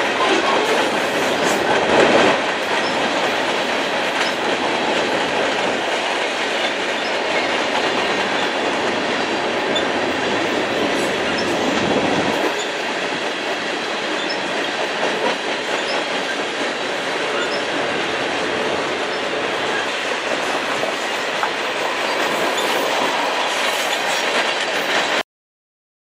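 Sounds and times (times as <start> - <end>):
freight train wheels on rails: 0.0 - 25.2.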